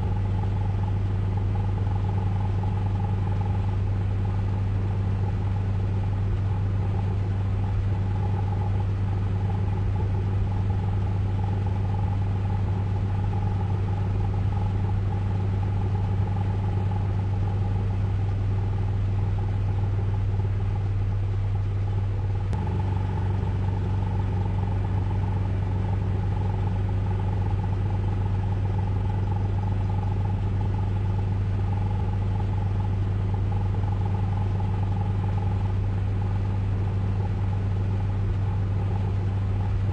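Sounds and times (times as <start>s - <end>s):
car wash machinery humming: 0.0s - 39.9s.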